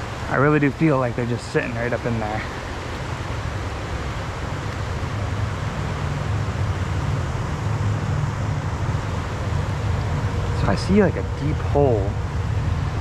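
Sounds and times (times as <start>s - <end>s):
river rushing over riffle: 0.0s - 13.0s
low rumble: 1.8s - 13.0s.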